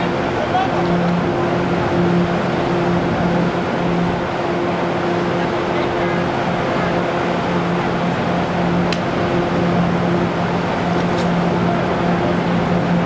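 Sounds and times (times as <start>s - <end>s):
low hum: 0.0s - 13.0s
train mechanical drone: 0.0s - 13.0s.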